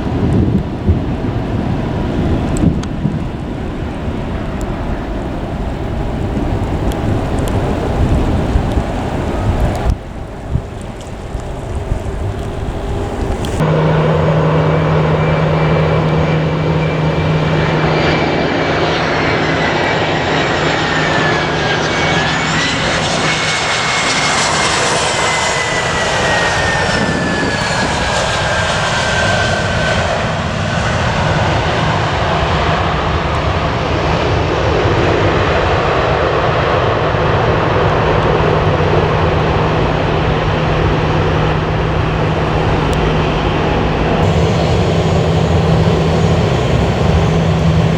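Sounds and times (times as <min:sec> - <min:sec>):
high engine whine: 0:00.0 - 0:35.5, 0:37.3 - 0:47.9
jet engines roaring: 0:00.0 - 0:47.9.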